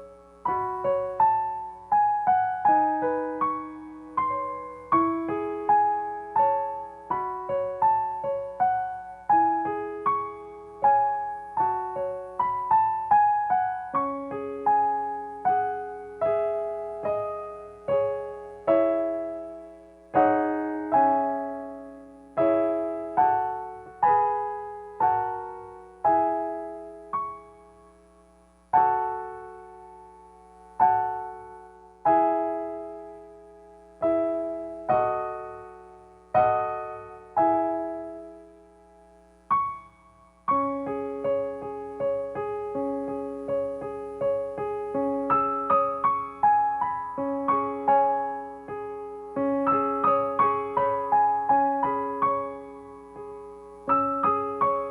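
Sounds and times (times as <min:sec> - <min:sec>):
slow gentle piano: 0:00.0 - 0:54.9.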